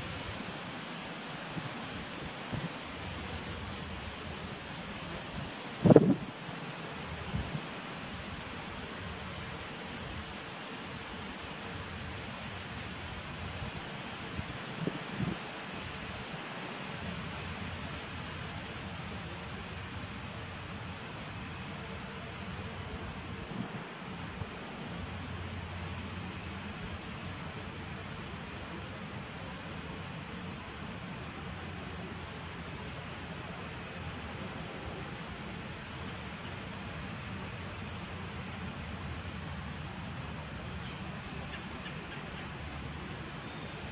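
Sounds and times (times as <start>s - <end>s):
high-pitched insect trill: 0.0s - 43.9s.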